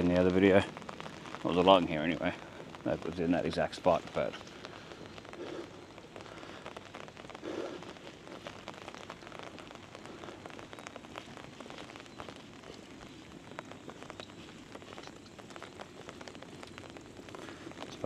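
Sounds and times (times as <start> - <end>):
rain drops ticking over hiss: 0.0 - 18.0.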